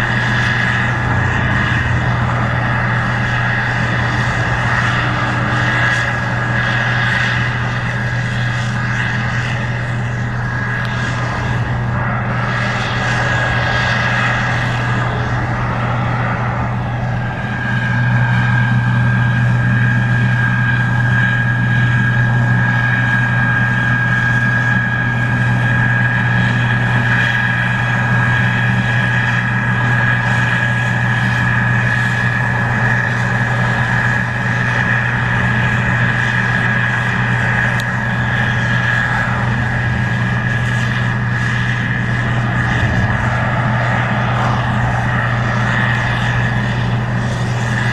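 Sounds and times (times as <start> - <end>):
combine engine drone: 0.0 - 47.9
high-pitched whine: 0.0 - 47.9.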